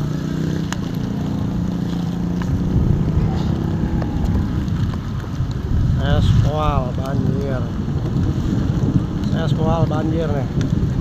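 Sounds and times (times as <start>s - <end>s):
motorcycle engine humming: 0.0s - 11.0s
water rushing under wheels: 0.0s - 11.0s
wind on microphone: 0.0s - 11.0s.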